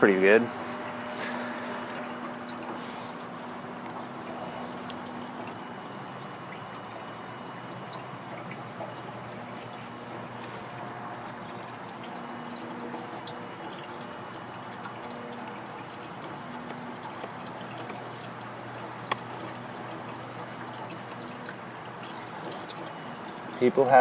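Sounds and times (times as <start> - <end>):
bees buzzing: 0.4 - 24.0.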